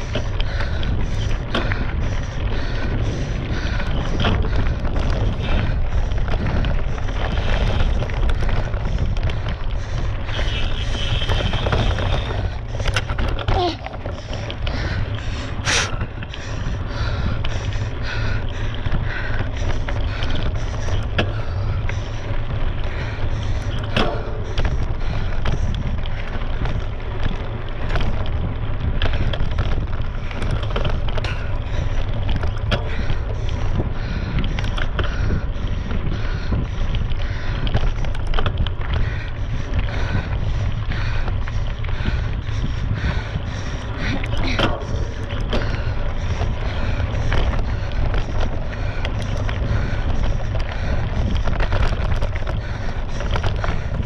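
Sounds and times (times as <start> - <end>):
bike clicks and rattles: 0.0 - 54.0
wind buffeting microphone: 0.0 - 54.0.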